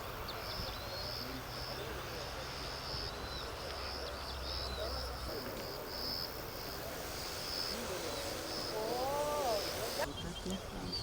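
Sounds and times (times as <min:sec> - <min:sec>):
insects chirping: 0:00.0 - 0:10.5
distant murmuring voices: 0:00.0 - 0:11.0.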